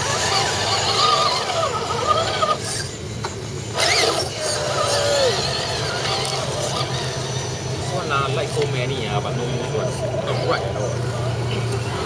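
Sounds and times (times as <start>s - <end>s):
electric motors and gearboxes whining: 0.0s - 12.0s.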